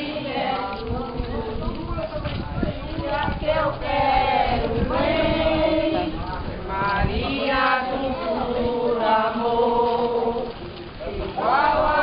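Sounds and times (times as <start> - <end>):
voices singing a hymn: 0.0 - 12.0.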